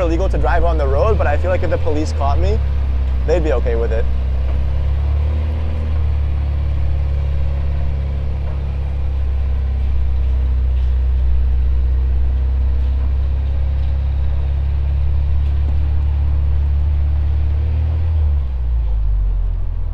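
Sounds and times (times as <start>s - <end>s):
car driving with low rumble: 0.0s - 19.9s.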